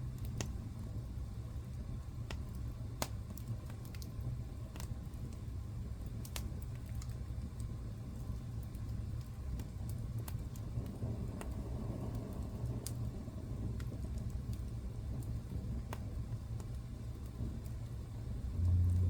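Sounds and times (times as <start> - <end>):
fire crackles and pops: 0.0 - 19.0
flames rumbling: 0.0 - 19.0.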